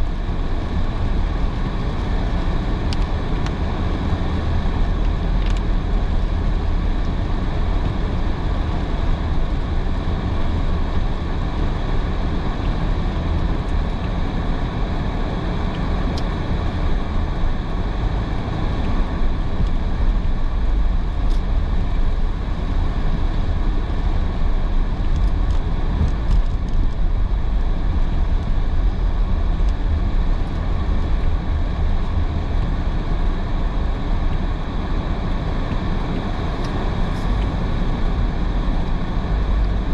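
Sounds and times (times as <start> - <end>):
tyres rumbling on wet road: 0.0 - 39.9.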